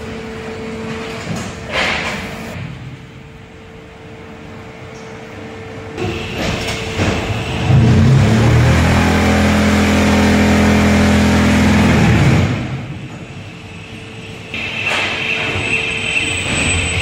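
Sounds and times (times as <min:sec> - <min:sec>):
loud low machine hum: 0:00.0 - 0:15.0.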